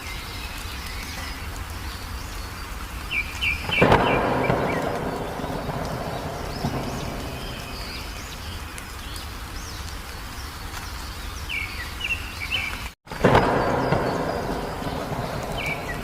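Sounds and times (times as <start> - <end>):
low outdoor background noise: 0.0 - 16.0
wild birds chirping: 0.0 - 16.0.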